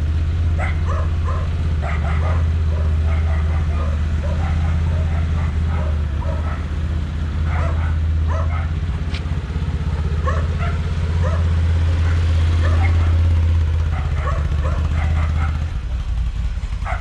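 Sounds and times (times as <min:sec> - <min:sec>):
engine running steadily: 0:00.0 - 0:17.0
dog barking: 0:00.5 - 0:09.0, 0:10.1 - 0:16.2, 0:16.8 - 0:17.0.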